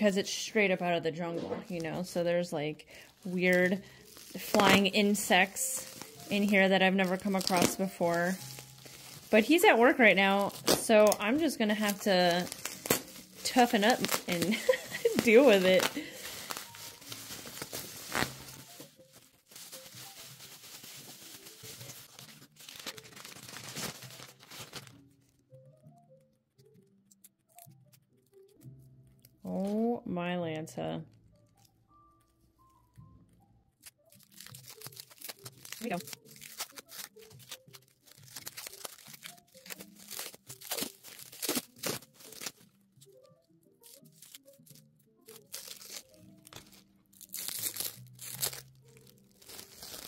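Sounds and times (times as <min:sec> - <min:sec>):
bubble wrap and paper crinkling: 0:01.6 - 0:25.8, 0:31.1 - 0:50.0.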